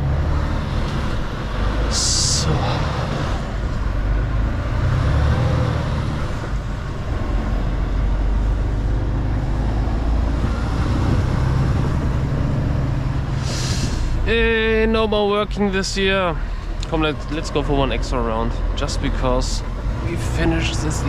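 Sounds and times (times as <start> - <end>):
road and tyre noise: 0.0 - 21.0
truck diesel engine drone: 0.0 - 21.0.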